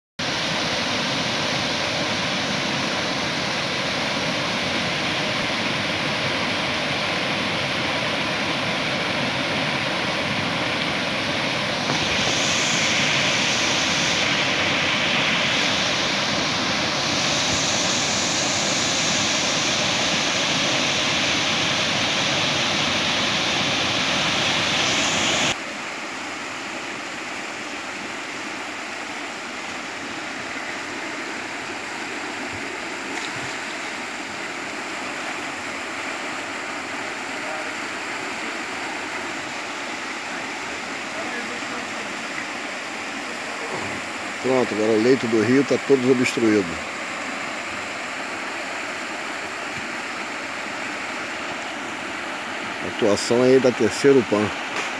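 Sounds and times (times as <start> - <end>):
river water rushing through weir: 0.2 - 54.9.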